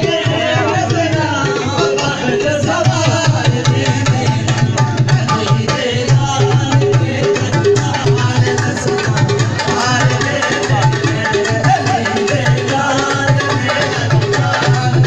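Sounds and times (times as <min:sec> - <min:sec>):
fast hand-drum rhythm: 0:00.0 - 0:15.0.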